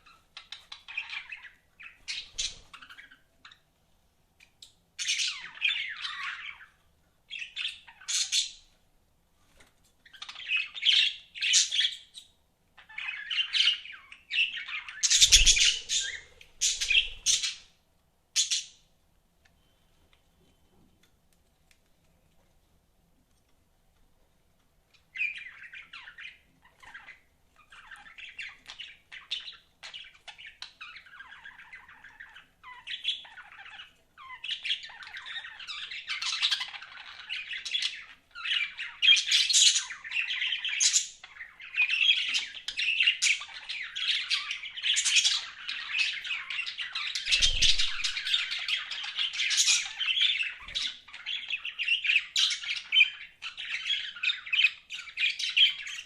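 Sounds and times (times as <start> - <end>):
budgerigars chirping and chattering: 0.0 - 3.6, 5.0 - 8.7, 10.0 - 17.7, 18.4 - 18.8, 25.0 - 56.0.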